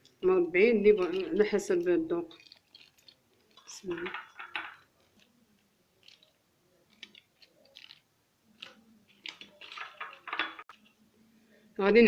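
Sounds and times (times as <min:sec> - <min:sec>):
kitchen items clicking and rustling: 0:00.0 - 0:11.0.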